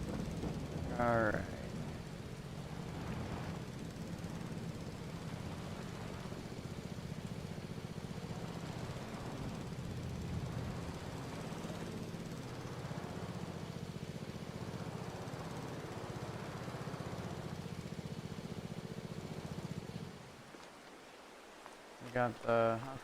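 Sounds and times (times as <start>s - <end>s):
mower engine running: 0.0s - 20.5s.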